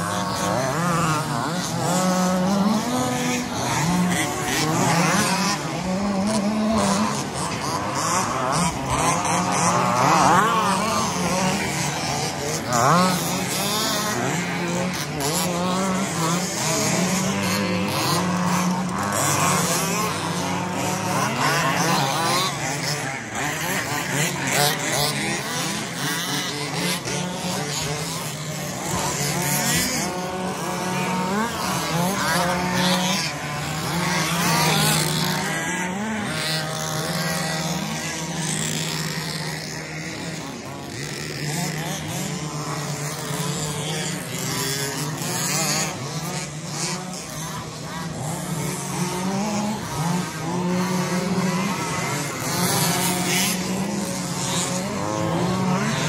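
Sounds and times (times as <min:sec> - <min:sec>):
rc buggy motors whining: 0:00.0 - 0:56.0.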